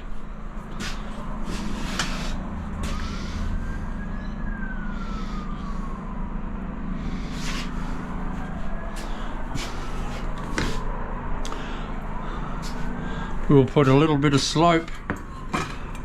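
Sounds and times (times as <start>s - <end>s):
emergency siren wailing: 0.0s - 16.0s
low hum: 0.0s - 16.0s.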